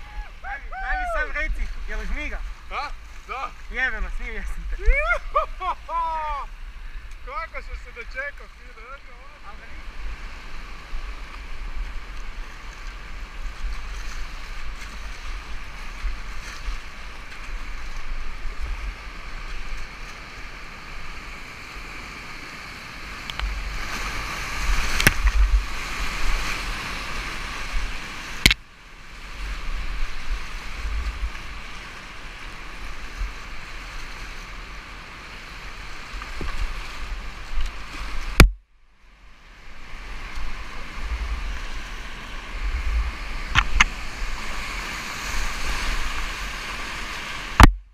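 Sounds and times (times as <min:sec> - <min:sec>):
rushing whitewater: 0:00.0 - 0:47.9.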